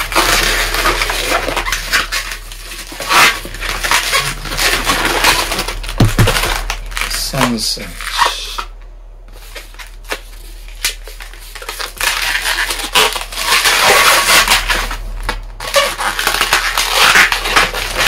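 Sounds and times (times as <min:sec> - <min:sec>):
balloons squeaking and rubbing: 0:00.0 - 0:08.7, 0:09.4 - 0:18.0.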